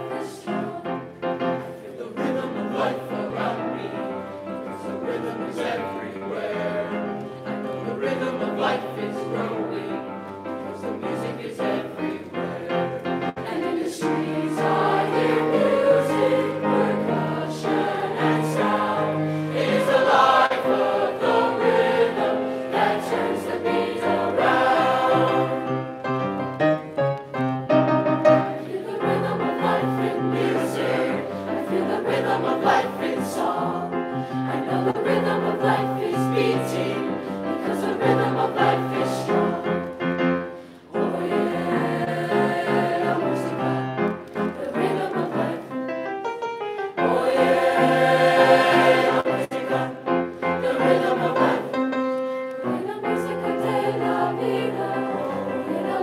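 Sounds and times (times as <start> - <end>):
choir singing in parts: 0.0 - 45.9, 46.9 - 56.0
piano accompaniment: 0.0 - 56.0.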